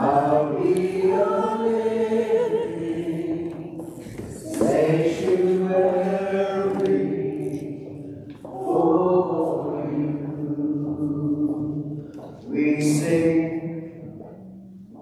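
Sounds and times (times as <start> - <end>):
group singing a hymn: 0.0 - 14.2.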